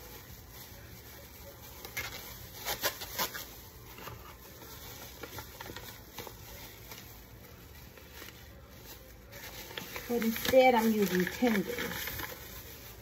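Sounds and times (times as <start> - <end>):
plastic gloves crinkling: 0.0 - 13.0
seasoning packet rustling: 0.0 - 13.0.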